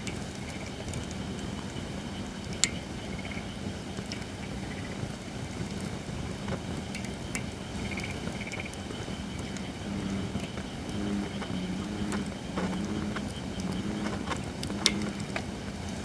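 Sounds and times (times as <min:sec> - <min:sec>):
campfire crackling and popping: 0:00.0 - 0:16.0
fire low rumble: 0:00.0 - 0:16.0.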